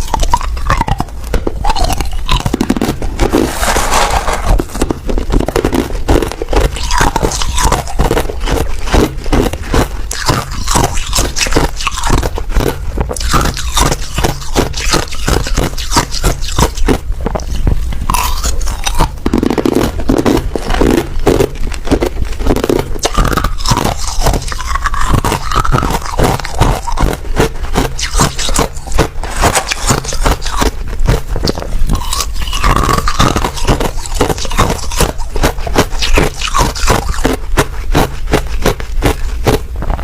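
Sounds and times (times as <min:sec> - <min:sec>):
person chewing ice: 0:00.0 - 0:40.0.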